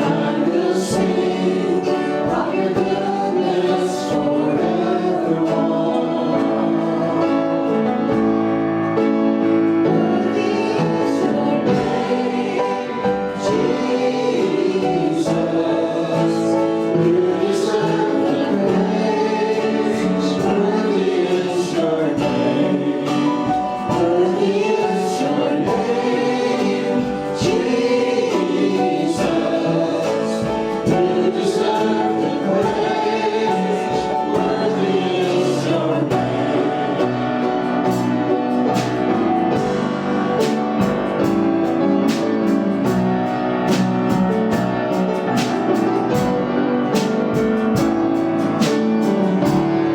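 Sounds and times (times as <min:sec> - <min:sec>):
group of voices singing: 0:00.0 - 0:49.9
instrumental accompaniment with beat: 0:00.0 - 0:49.9.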